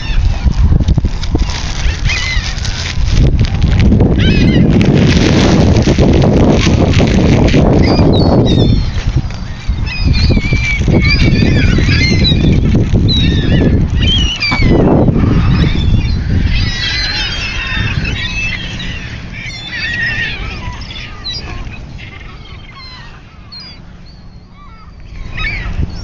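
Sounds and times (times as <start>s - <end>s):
gulls and geese calling: 0.0s - 26.0s
wind rumbling on microphone: 0.0s - 26.0s.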